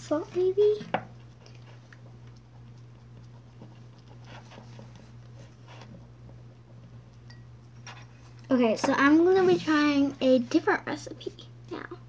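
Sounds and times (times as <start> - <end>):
slime being stirred by hand: 0.0 - 10.7
electric fan humming: 0.0 - 12.0.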